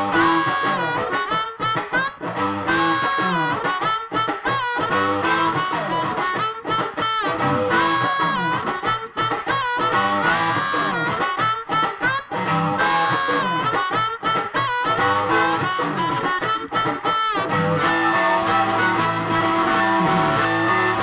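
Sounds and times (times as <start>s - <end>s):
amplified blues harmonica: 0.0s - 21.0s
electric guitar accompaniment: 0.0s - 21.0s.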